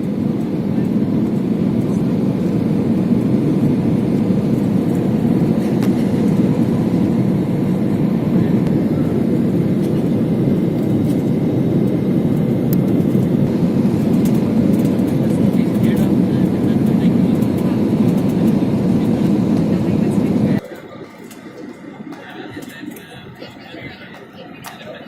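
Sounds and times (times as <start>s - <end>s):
airliner low rumble: 0.0s - 25.0s.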